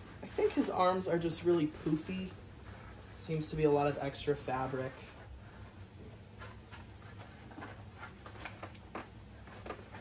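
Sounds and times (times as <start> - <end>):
fabric rustling: 0.0 - 10.0.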